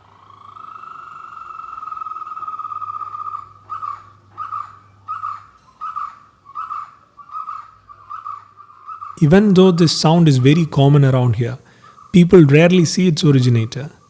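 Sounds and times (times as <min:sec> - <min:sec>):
bird calling with rolling trill: 0:00.0 - 0:13.8.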